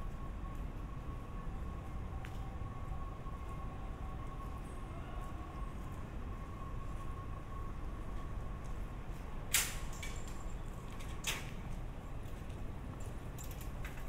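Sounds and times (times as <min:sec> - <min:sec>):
low city hum: 0:00.0 - 0:14.0.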